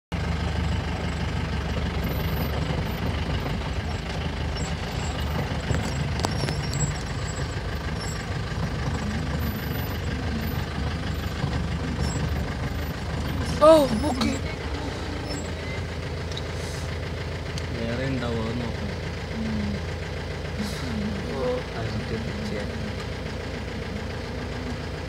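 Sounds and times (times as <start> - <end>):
vehicle engine idling: 0.1 - 25.0.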